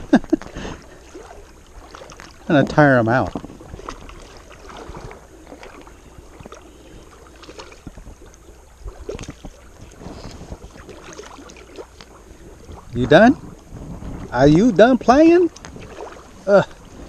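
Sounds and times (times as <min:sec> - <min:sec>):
wind buffeting microphone: 0:02.4 - 0:17.0.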